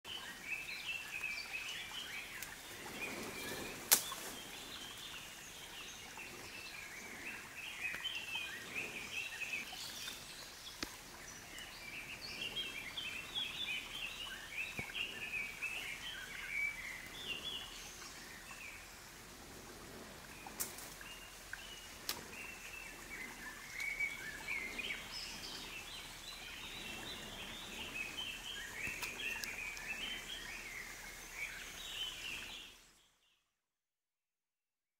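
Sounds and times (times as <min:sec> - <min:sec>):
songbirds singing: 0:00.0 - 0:33.4.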